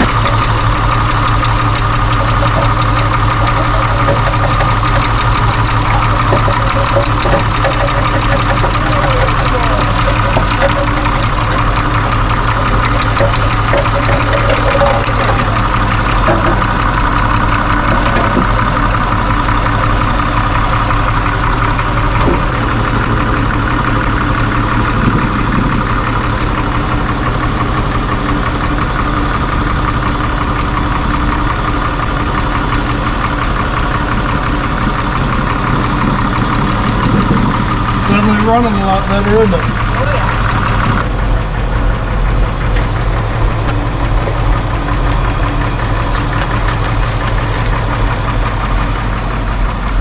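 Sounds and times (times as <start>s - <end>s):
pickup engine idling: 0.0s - 50.0s.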